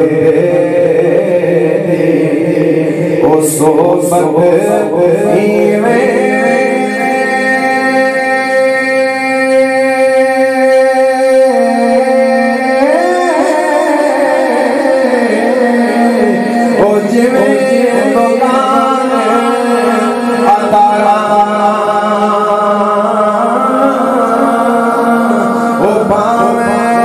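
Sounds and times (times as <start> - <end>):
man singing into a microphone: 0.0 - 27.0.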